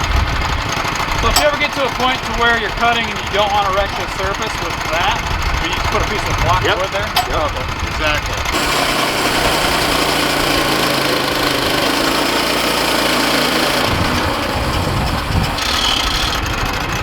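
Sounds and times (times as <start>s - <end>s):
band sawmill engine running: 0.0s - 17.0s.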